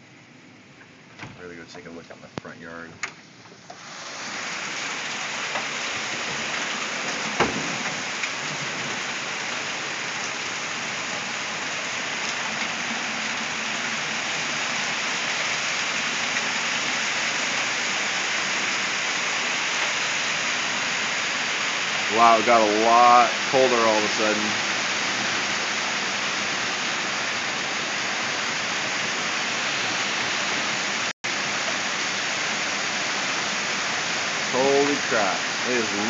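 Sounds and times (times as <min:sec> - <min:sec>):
heavy rain pouring: 0:03.7 - 0:36.0.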